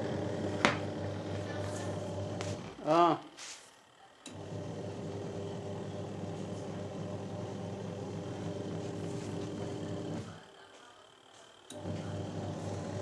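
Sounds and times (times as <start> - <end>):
spin-dryer motor humming: 0.0 - 13.0.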